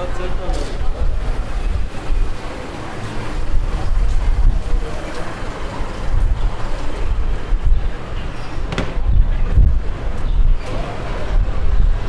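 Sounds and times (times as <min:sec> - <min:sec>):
heavy low street rumble: 0:00.0 - 0:12.0.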